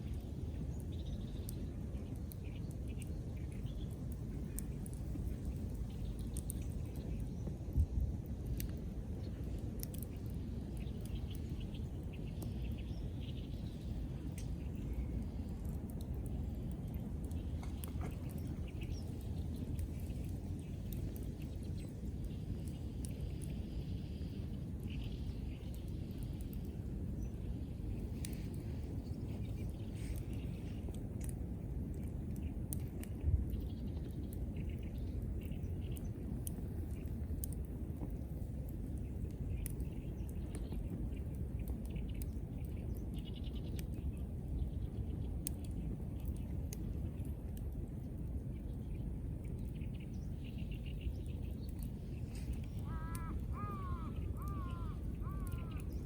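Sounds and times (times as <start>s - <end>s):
low fire rumble: 0.0s - 56.0s
wood fire crackling: 0.0s - 56.0s.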